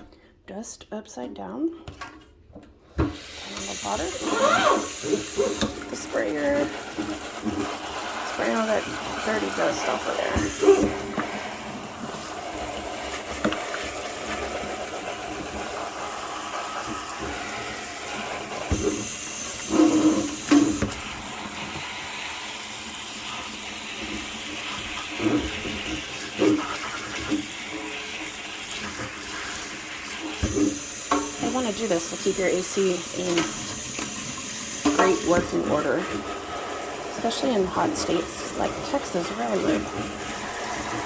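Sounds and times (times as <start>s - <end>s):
water spraying onto filter: 3.0s - 41.0s.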